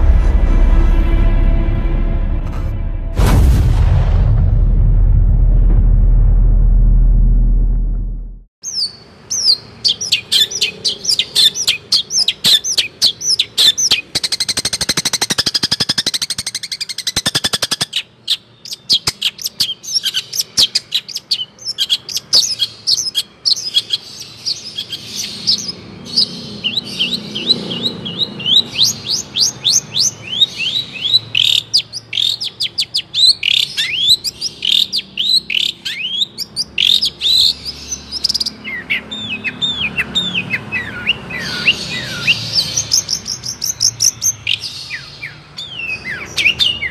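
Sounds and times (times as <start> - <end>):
songbird singing: 8.6 - 46.9.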